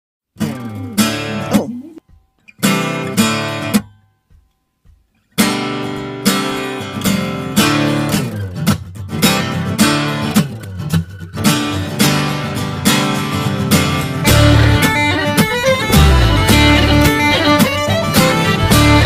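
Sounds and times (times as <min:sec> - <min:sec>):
strummed acoustic guitar: 0:00.4 - 0:19.0.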